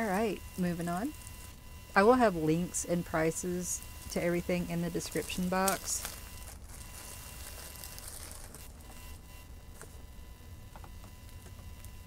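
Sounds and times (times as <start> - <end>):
faint high whine: 0.0 - 12.0
steady low hum: 0.0 - 12.0.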